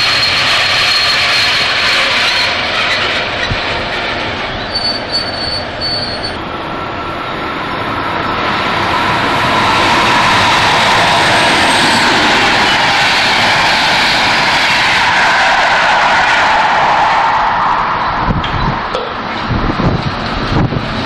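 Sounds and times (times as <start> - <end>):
high-pitched wheel squeals: 0.0 - 7.4, 9.0 - 18.7
train wheels rumbling on rails: 0.0 - 21.0.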